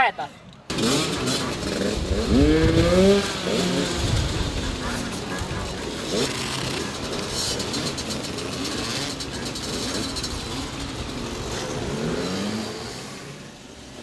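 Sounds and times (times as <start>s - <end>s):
moped engines revving: 0.0s - 14.0s.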